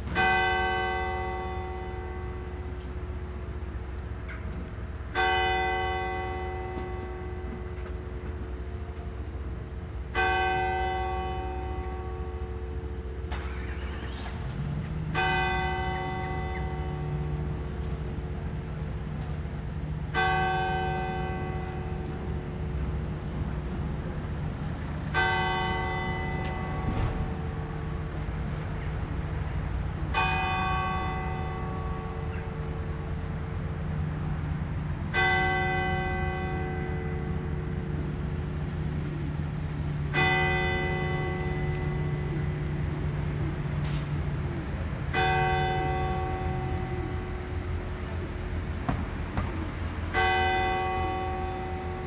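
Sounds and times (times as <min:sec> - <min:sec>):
church bell tolling: 0:00.0 - 0:52.0.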